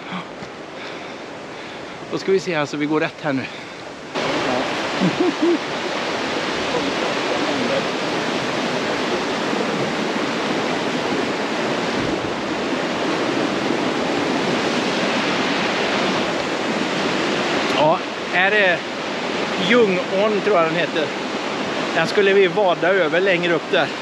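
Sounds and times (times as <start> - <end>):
river rushing over rapids: 0.0 - 24.0.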